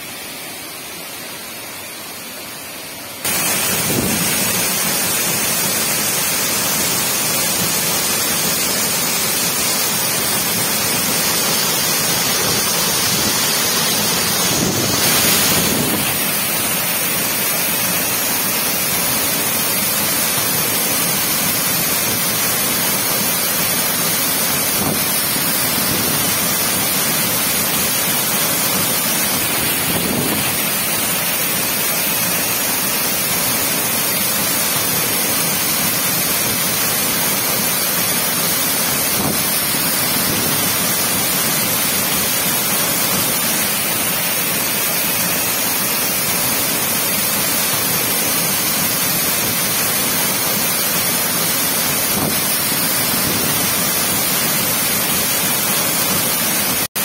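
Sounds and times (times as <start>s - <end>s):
waterfall crashing onto boulders: 3.2s - 57.0s.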